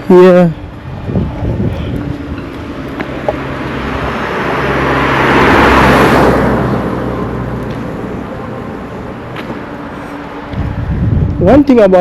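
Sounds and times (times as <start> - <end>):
low engine hum: 0.0 - 11.6
motor vehicle driving past: 0.7 - 11.3.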